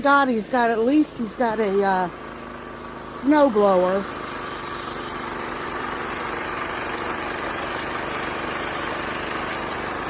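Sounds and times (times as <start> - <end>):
snow blower engine running: 0.0 - 10.0.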